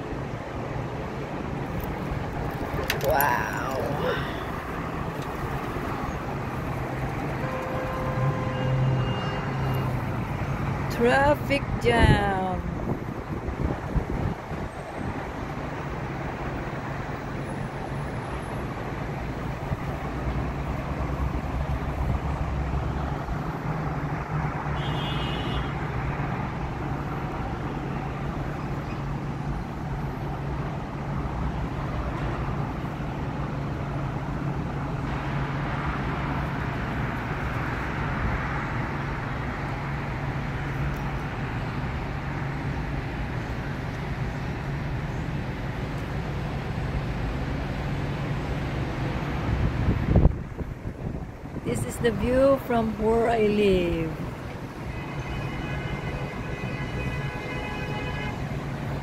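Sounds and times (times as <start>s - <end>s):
distant road traffic hum: 0.0s - 59.0s.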